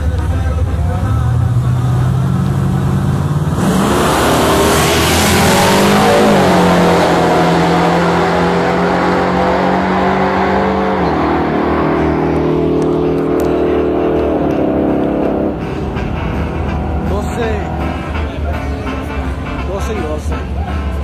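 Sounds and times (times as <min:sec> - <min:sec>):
truck engines revving in drag race: 0:00.0 - 0:21.0.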